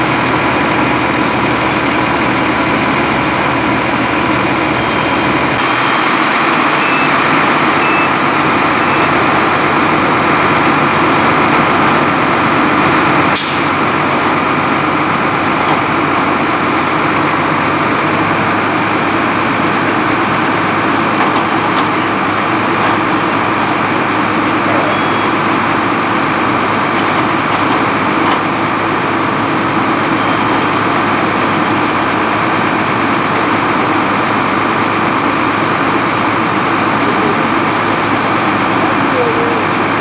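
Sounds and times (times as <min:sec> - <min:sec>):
fire engines droning: 0:00.0 - 0:40.0.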